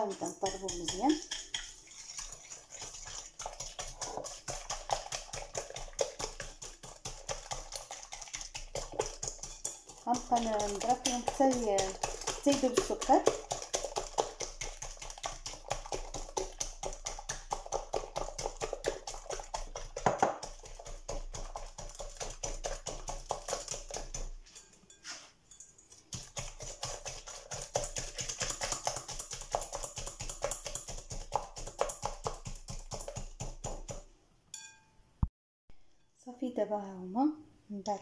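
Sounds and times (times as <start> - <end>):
whisk ticking against glass bowl: 0.0 - 34.8.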